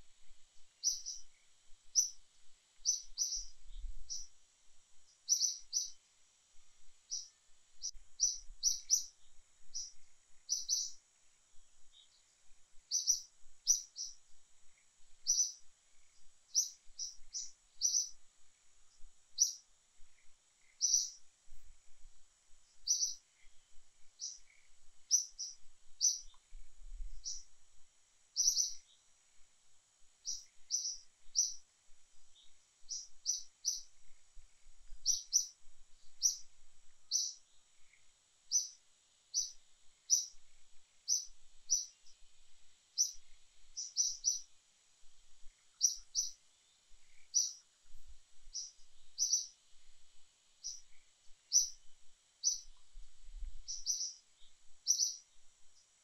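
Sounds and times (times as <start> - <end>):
faint high hiss: 0.0 - 56.0
bird chirping: 0.6 - 2.2, 2.8 - 4.4, 5.0 - 6.0, 7.0 - 11.0, 11.8 - 18.2, 18.9 - 21.6, 22.7 - 27.5, 28.4 - 29.1, 30.2 - 42.3, 42.9 - 44.6, 45.4 - 49.6, 50.6 - 51.8, 52.4 - 52.9, 53.5 - 55.9.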